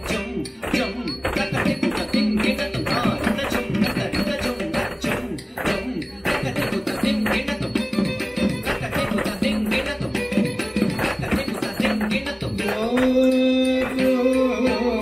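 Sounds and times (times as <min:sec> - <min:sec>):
ankle bells jingling: 0:00.0 - 0:15.0
song with steady beat: 0:00.0 - 0:15.0.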